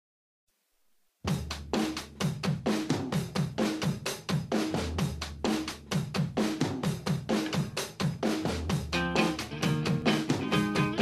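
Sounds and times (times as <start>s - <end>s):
fast drum kit beat: 1.2s - 11.0s.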